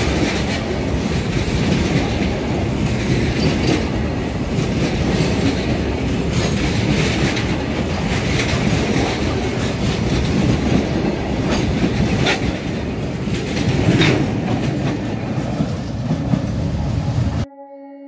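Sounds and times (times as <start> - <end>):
wheels clacking on rail joints: 0.0 - 16.9
freight train wheels rumbling: 0.0 - 17.5.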